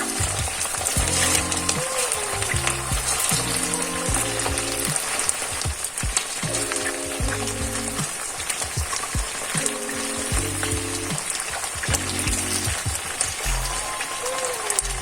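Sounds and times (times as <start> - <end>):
background music with beat: 0.0 - 15.0.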